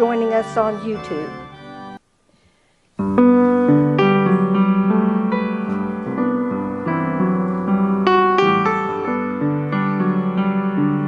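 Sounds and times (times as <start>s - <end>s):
piano playing chords and melody: 0.0s - 2.0s, 3.0s - 11.0s.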